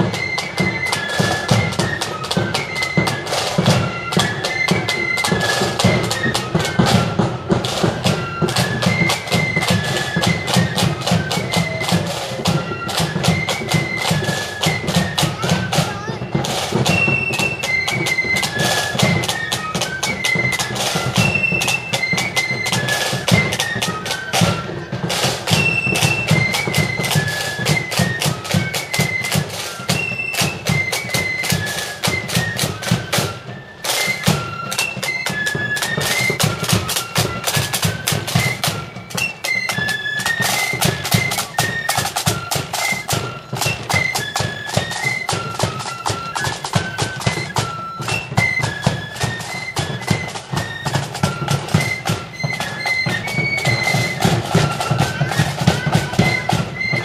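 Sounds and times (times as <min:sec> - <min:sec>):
flute melody: 0:00.0 - 0:57.0
side drum strokes: 0:00.0 - 0:57.0.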